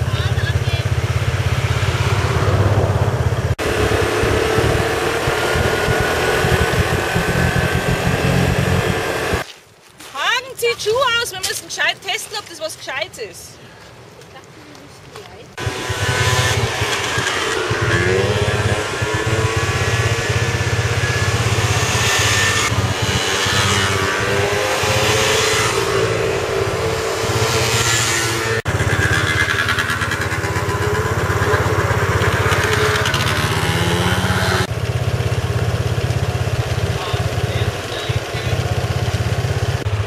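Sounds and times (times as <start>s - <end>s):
motor scooters riding past: 0.0s - 9.4s, 15.6s - 40.0s.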